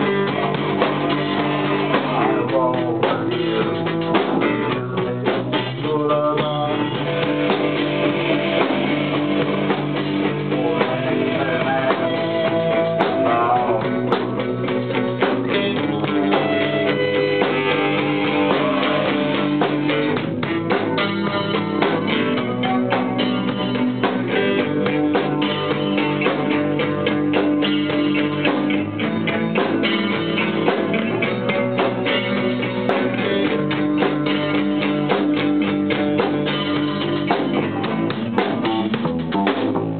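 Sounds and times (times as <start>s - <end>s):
drums playing: 0.0s - 39.9s
guitar-led music: 0.0s - 39.9s.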